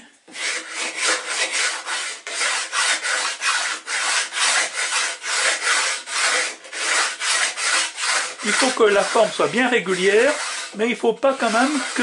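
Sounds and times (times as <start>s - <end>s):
sandpaper rubbing on wood: 0.3s - 12.0s.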